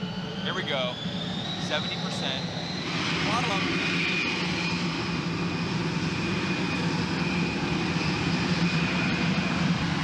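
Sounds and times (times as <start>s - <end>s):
jet engine roaring with whine: 0.0s - 10.0s.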